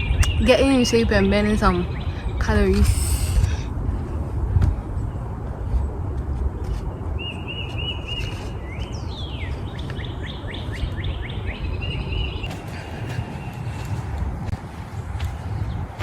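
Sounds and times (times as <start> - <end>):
songbirds calling: 0.0 - 6.0, 6.6 - 14.4.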